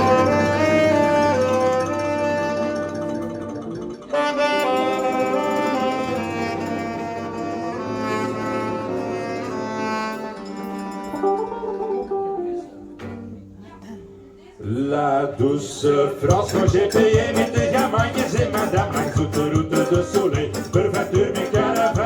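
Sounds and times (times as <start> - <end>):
live band playing: 0.0 - 13.6, 16.3 - 22.0.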